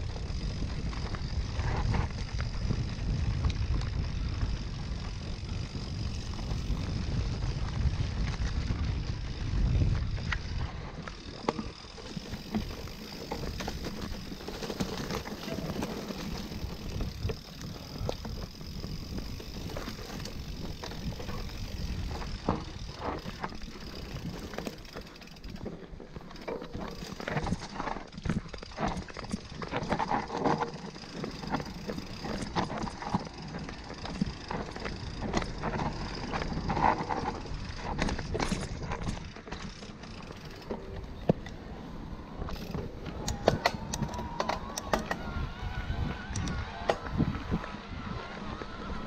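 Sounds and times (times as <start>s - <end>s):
bike rattles and clicks: 0.0s - 49.0s
mountain bike rumble: 0.0s - 49.0s.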